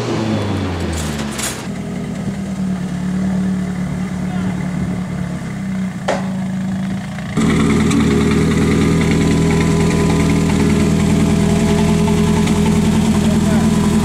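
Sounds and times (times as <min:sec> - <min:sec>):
race car engine idling: 0:00.4 - 0:14.0.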